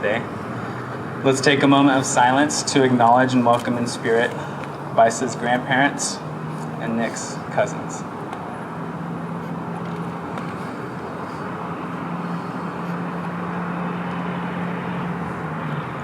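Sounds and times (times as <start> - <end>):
distant road traffic rush: 0.0 - 16.0.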